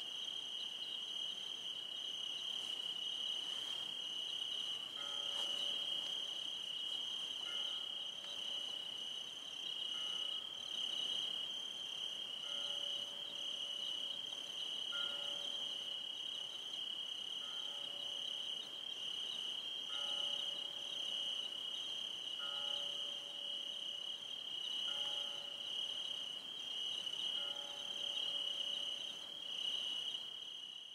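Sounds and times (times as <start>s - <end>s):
crickets trilling: 0.0s - 30.9s.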